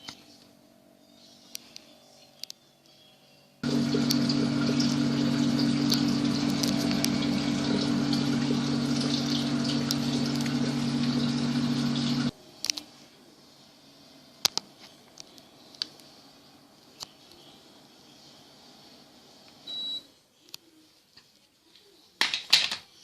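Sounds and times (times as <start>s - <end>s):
air conditioner humming: 0.0s - 23.0s.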